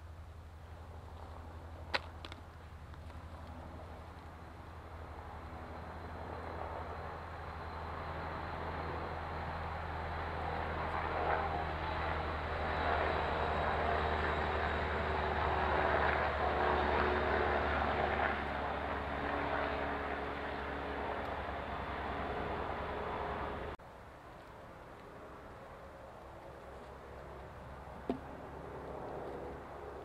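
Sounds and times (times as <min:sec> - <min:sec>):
distant engine drone: 0:00.0 - 0:30.0.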